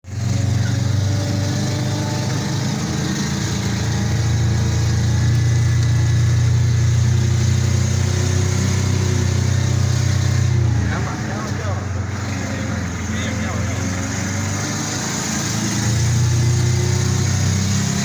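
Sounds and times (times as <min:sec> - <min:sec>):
heavy vehicle engine drone: 0:00.0 - 0:18.0.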